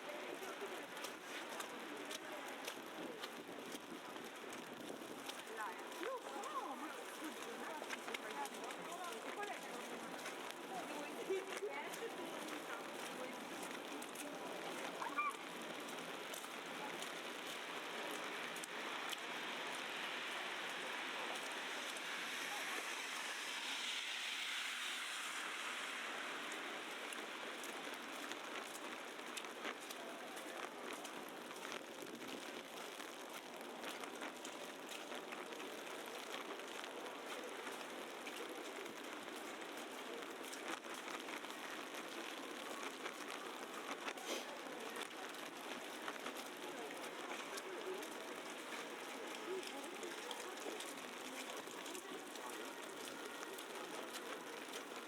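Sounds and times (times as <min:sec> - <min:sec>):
hiss of wet snowy street: 0:00.0 - 0:55.0.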